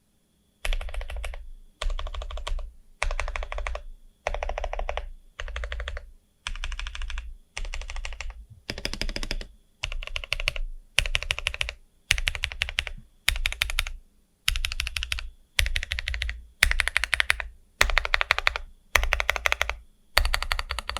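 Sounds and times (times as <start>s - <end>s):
mechanical keyboard typing: 0.6s - 20.9s.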